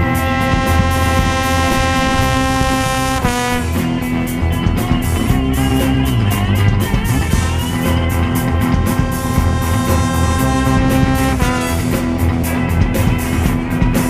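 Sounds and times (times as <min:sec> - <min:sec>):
drum beats: 0:00.0 - 0:14.0
guitar: 0:00.0 - 0:14.0
live band music: 0:00.0 - 0:14.0.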